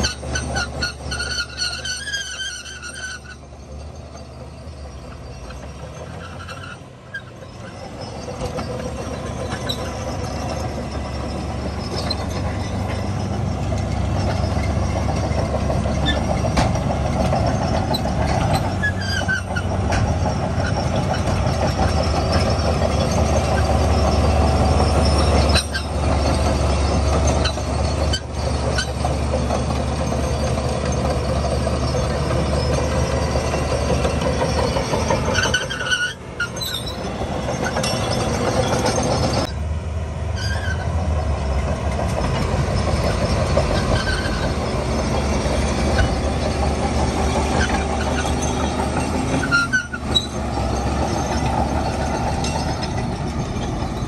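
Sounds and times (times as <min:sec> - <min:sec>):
short high squeals: 0:00.0 - 0:29.4, 0:30.0 - 0:39.5, 0:40.4 - 0:41.0, 0:42.3 - 0:54.0
bulldozer diesel engine under load: 0:00.0 - 0:54.0.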